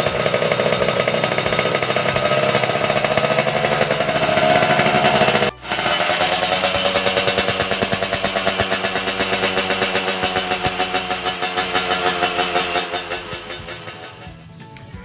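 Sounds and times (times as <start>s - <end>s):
two-stroke engine running: 0.0s - 14.8s.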